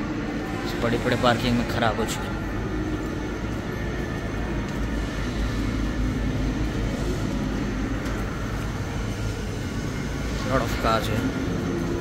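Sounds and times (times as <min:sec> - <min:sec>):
faint hum: 0:00.0 - 0:12.0
low rumble: 0:02.2 - 0:12.0.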